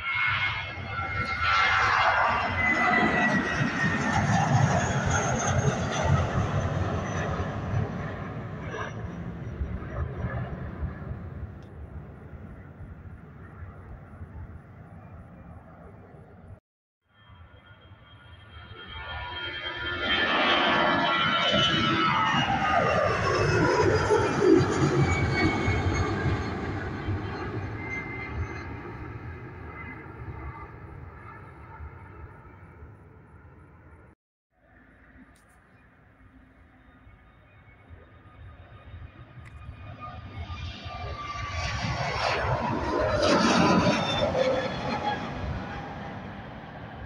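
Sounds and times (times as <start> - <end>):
jet engines at take-off: 0.0 - 47.0.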